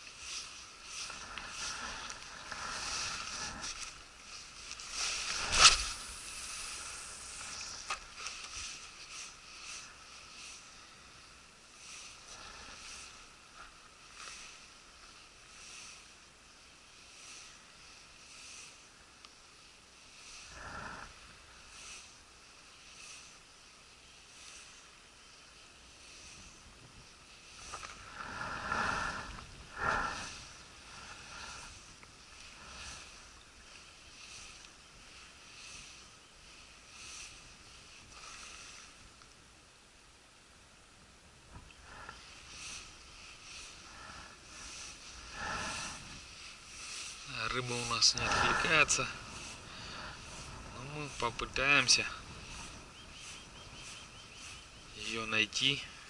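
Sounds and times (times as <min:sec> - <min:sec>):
rustle: 0:00.0 - 0:56.0.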